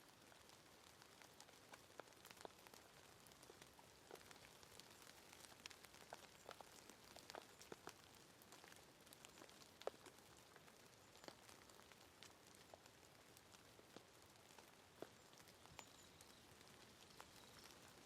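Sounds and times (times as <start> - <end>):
raindrops ticking on ground: 0.0 - 18.0.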